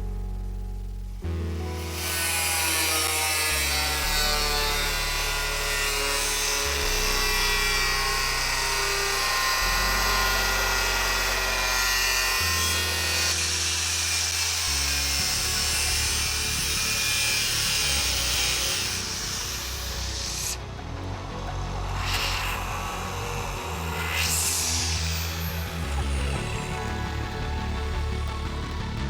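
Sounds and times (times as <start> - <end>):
background music with bass line: 0.0 - 29.0
tool sawing through steel plate: 1.8 - 20.7, 21.5 - 27.5.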